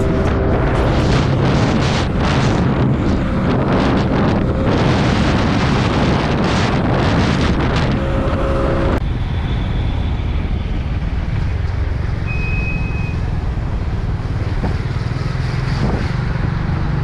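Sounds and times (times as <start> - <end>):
vehicle rumble: 0.0 - 17.0
wind noise on microphone: 0.0 - 17.0.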